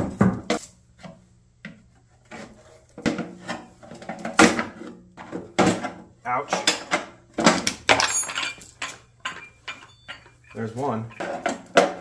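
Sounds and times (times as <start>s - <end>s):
knocks scrapes and rattles of parts: 2.0s - 12.0s.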